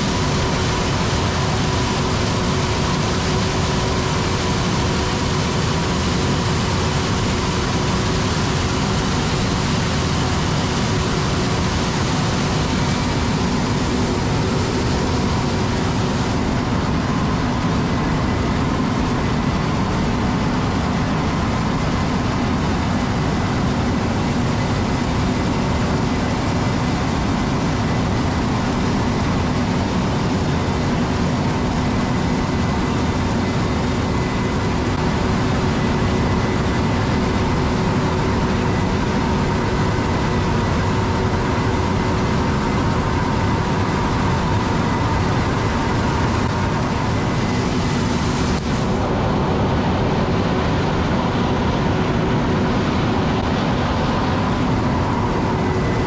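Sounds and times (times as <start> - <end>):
combine harvester rumbling: 0.0 - 56.0
constant machine whine: 0.0 - 56.0.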